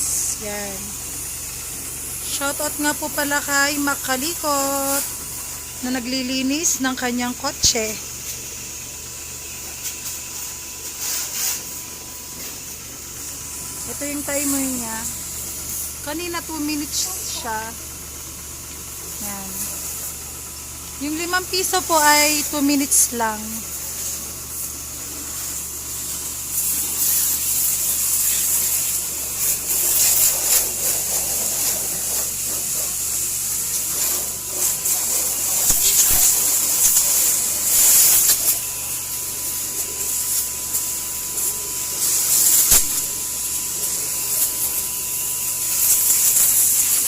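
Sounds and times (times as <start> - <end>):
high-pressure water spraying: 0.0 - 47.0
pump low hum: 0.0 - 47.0.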